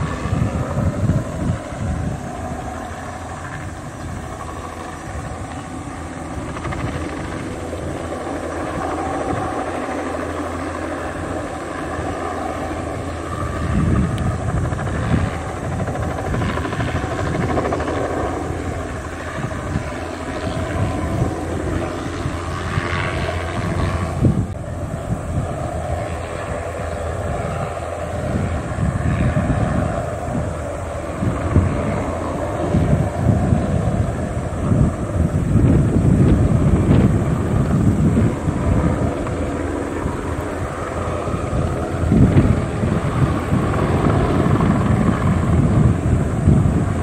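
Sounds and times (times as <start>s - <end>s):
helicopter hovering: 0.0s - 47.0s
helicopter rotor beat: 0.0s - 47.0s.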